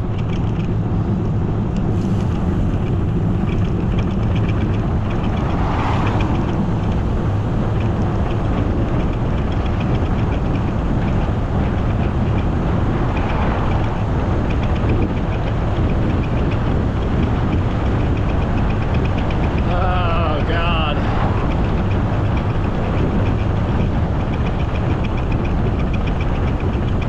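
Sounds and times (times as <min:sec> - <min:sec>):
bicycle road rumble: 0:00.0 - 0:27.0
fast faint ticking: 0:00.0 - 0:27.0
wind: 0:00.0 - 0:27.0.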